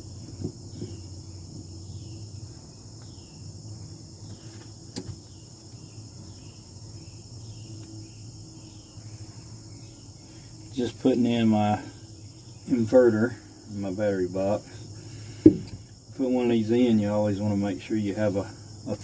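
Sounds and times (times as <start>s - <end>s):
crickets chirping: 0.0s - 19.0s
low background hum: 0.0s - 19.0s.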